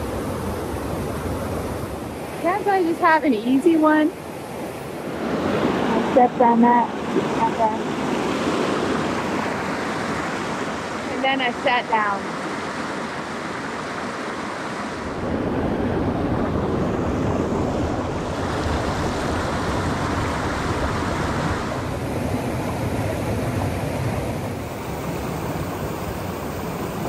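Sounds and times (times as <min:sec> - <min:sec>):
stream rushing over boulders: 0:00.0 - 0:27.0.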